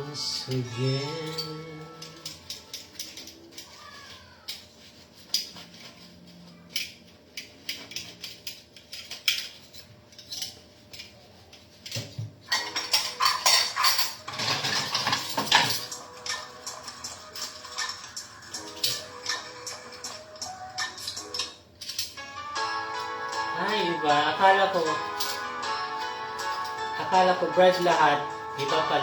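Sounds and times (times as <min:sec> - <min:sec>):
dishes and cutlery clattering: 0:00.2 - 0:29.0.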